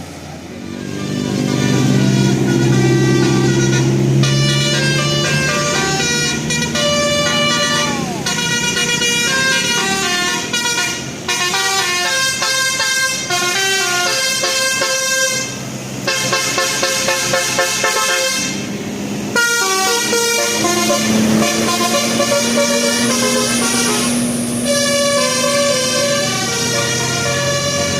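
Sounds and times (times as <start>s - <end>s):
musical bus horn melody: 0.7s - 27.9s.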